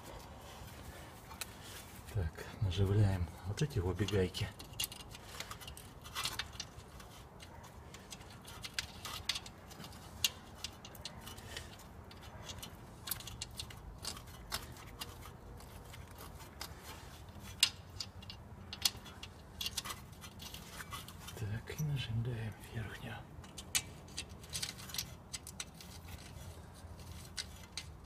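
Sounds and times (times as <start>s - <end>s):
metallic clicks of nut turning: 4.0s - 21.9s, 23.4s - 28.0s.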